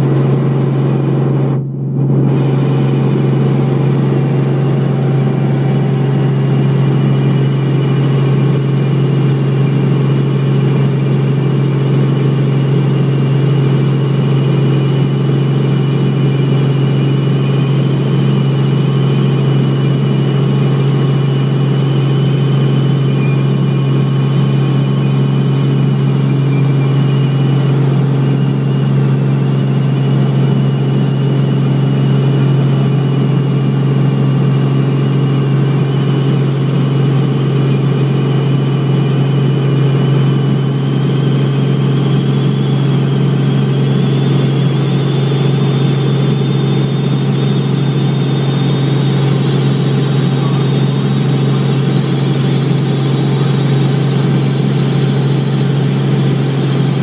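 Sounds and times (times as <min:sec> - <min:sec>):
helicopter engine and rotor drone: 0:00.0 - 0:57.0
high whine: 0:00.0 - 0:57.0.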